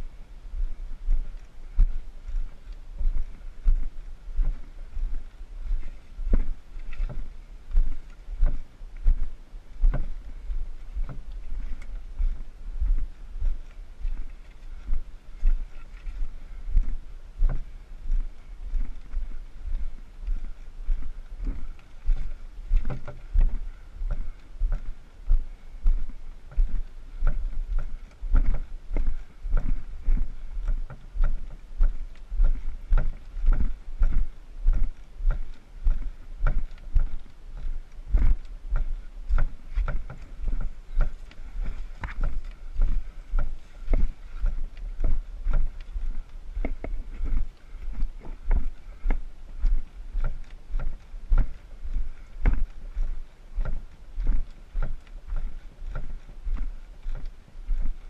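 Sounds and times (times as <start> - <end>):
footsteps on dirt trail: 0.0 - 58.0.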